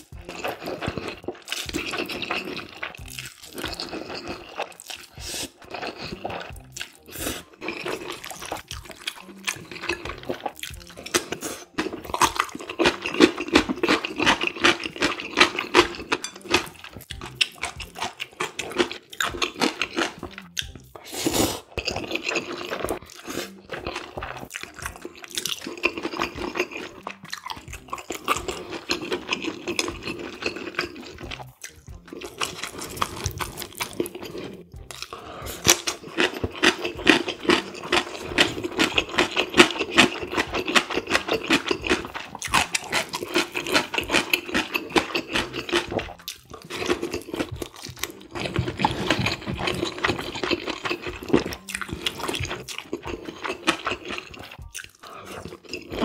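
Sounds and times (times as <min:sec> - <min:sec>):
wet chewing and slurping: 0:00.0 - 0:56.0.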